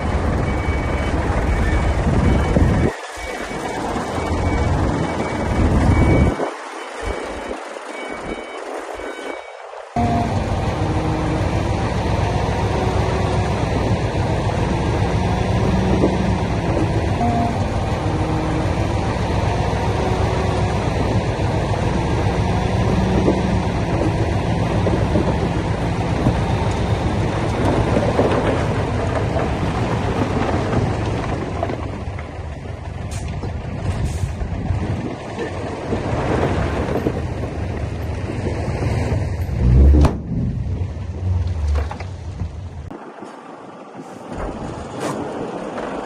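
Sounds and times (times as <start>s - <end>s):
heavy diesel machinery rumbling: 0.0s - 9.3s, 10.0s - 42.9s.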